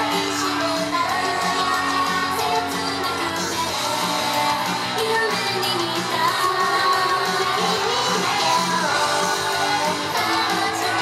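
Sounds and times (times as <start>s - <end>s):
pop song with female singing: 0.0s - 11.0s.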